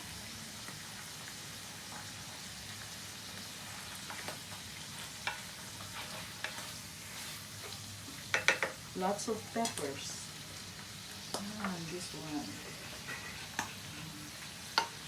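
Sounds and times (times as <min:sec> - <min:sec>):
frying pan sizzling: 0:00.0 - 0:15.0.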